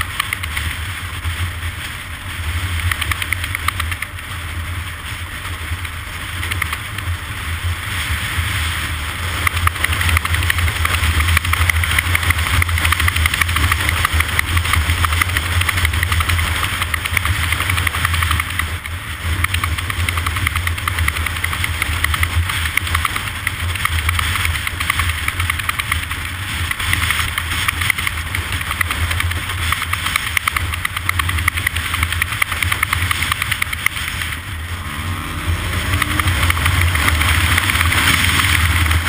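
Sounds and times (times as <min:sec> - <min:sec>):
engine running with rattle: 0:00.0 - 0:39.0.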